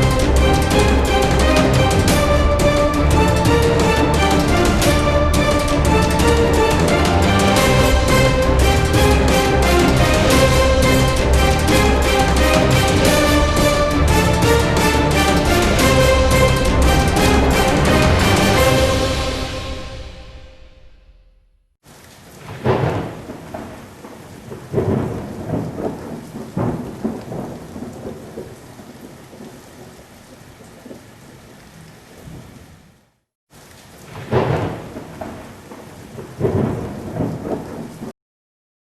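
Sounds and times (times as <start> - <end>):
steady rain: 0.0 - 20.4, 21.8 - 38.1
thunder rumbling: 0.0 - 21.4, 22.3 - 32.8, 34.0 - 38.1.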